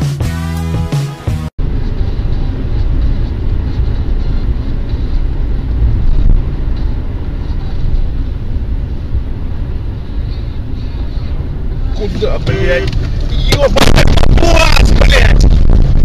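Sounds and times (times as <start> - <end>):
moving vehicle rumble: 0.0 - 16.0.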